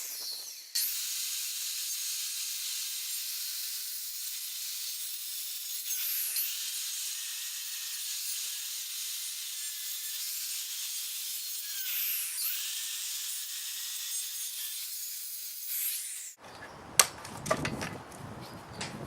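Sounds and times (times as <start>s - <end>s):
circular saw cutting wood: 0.0s - 16.7s.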